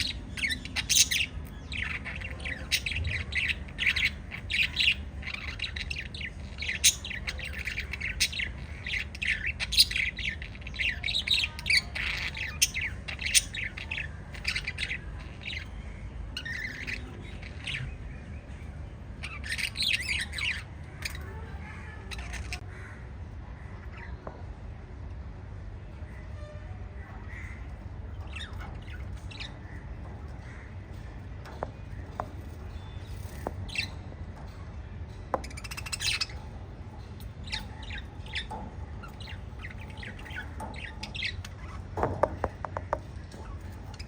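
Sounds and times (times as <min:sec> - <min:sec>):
parrots chirping and squawking: 0:00.0 - 0:24.3, 0:26.0 - 0:44.0
steady low hum: 0:00.0 - 0:44.0.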